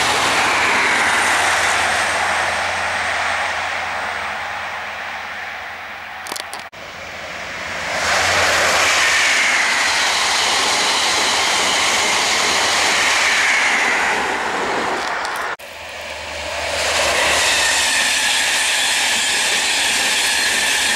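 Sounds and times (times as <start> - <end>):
train passing at speed: 0.0 - 20.9.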